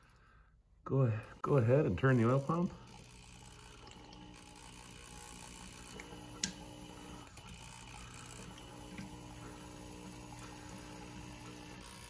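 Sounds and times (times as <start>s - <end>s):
electric drill turning slowly: 1.2s - 12.0s.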